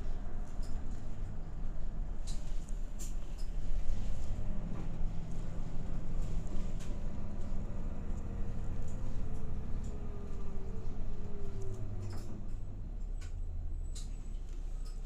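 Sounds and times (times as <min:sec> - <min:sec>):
bus engine and road rumble: 0:00.0 - 0:15.0
light rattles and clicks: 0:02.2 - 0:15.0.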